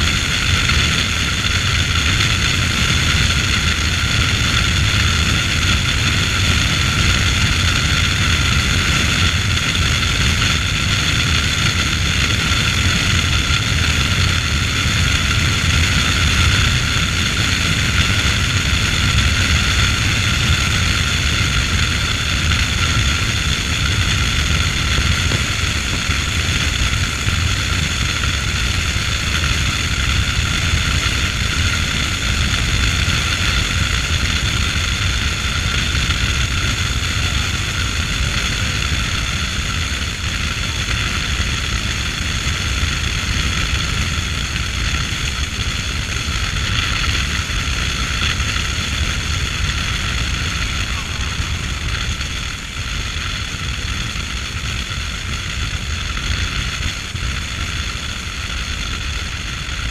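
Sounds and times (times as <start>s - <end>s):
vehicle wind and road noise: 0.0s - 59.9s.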